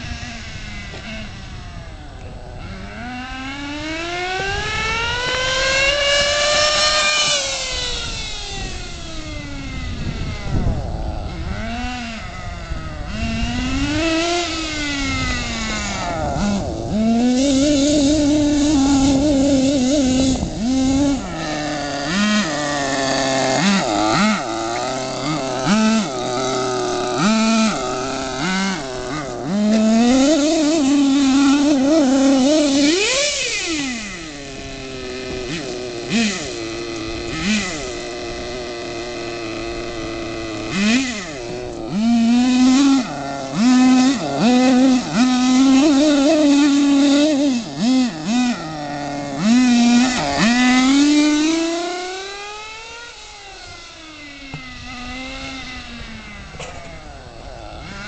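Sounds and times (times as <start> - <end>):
rc car engine buzzing: 0.0 - 58.0.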